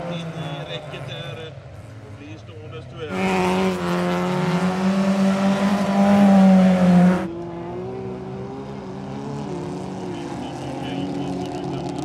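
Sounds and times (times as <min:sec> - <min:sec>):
race car engines at high revs: 0:00.0 - 0:12.0.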